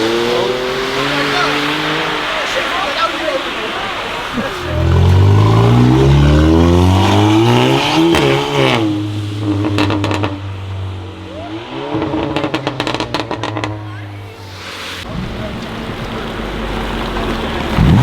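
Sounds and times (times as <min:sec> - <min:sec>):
car engine accelerating hard: 0:00.0 - 0:18.0
exhaust crackling: 0:00.0 - 0:18.0.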